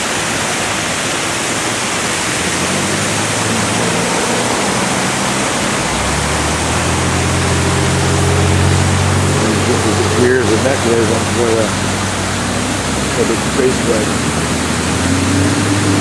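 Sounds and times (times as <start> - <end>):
vehicle engine hum: 0.0 - 16.0
water rushing over spillway: 0.0 - 16.0.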